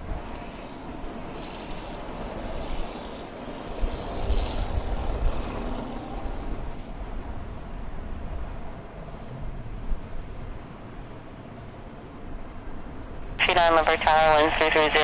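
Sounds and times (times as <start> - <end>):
wind buffeting microphone: 0.0 - 13.5
jet engines rumbling: 0.0 - 15.0.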